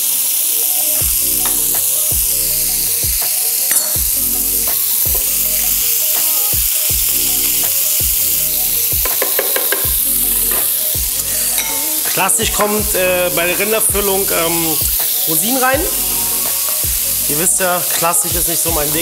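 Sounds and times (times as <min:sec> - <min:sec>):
meat sizzling in a pan: 0:00.0 - 0:19.0
background music with beat: 0:00.8 - 0:19.0.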